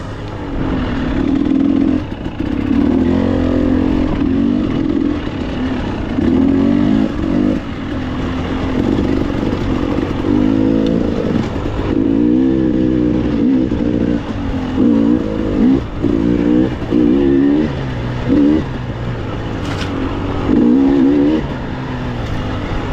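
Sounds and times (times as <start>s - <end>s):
dirt bike engine revving: 0.0s - 22.9s.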